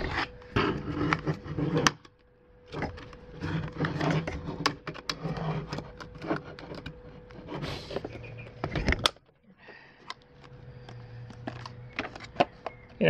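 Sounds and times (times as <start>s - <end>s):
plastic parts clicking and knocking: 0.6s - 9.4s, 10.0s - 13.0s.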